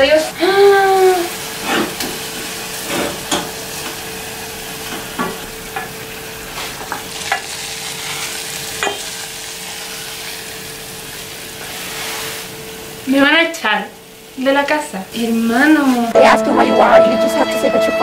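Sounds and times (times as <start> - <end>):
steady sizzling hiss: 0.0 - 18.0.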